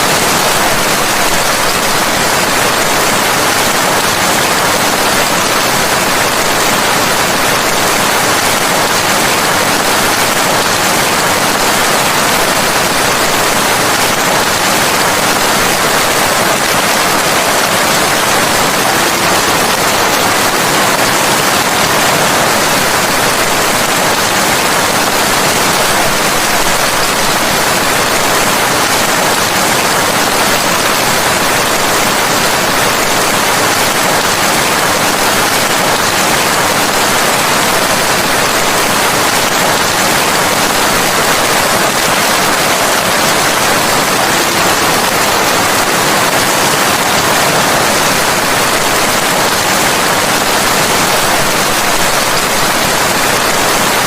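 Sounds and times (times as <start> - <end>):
dense rain hiss: 0.0 - 54.0.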